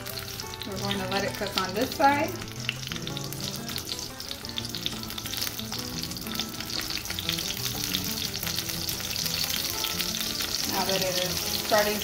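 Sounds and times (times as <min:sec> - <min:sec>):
tortilla frying with crackling pops: 0:00.0 - 0:12.0.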